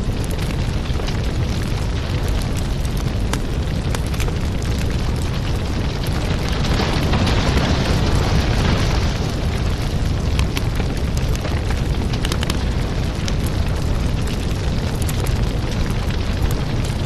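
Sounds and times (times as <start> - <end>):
low rumble of fire: 0.0 - 17.0
wood crackling and popping: 0.0 - 17.0.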